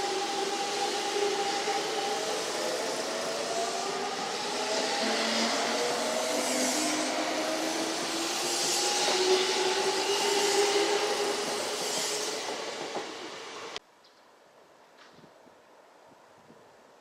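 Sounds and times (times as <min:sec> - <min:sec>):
train rushing noise: 0:00.0 - 0:13.8.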